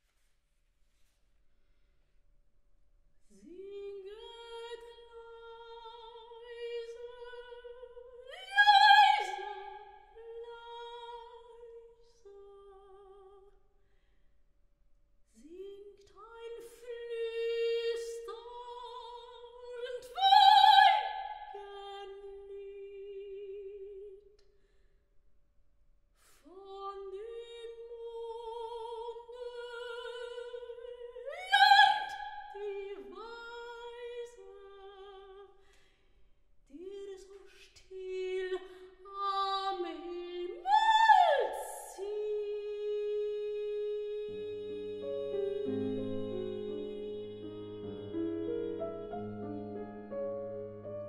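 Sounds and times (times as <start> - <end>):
woman singing operatic lullaby: 3.3 - 13.5, 15.4 - 24.2, 26.4 - 35.6, 36.7 - 49.8.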